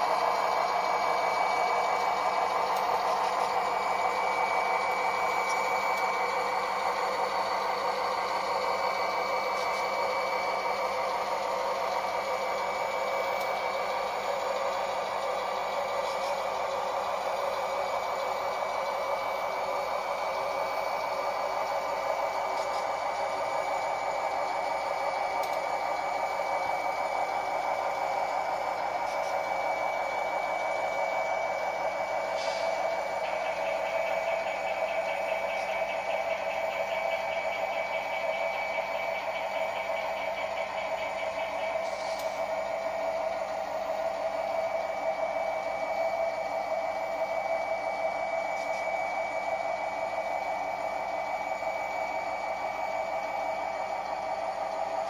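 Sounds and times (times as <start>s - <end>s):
model train wheels rumbling on track: 0.0s - 55.0s.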